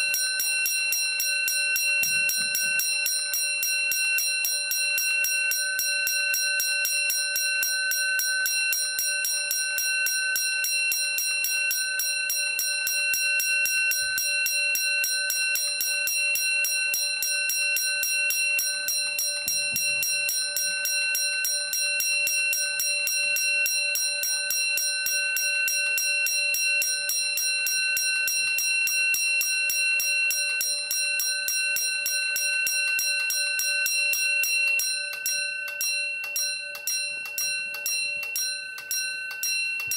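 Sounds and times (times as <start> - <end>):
fire alarm bell ringing: 0.0 - 39.9.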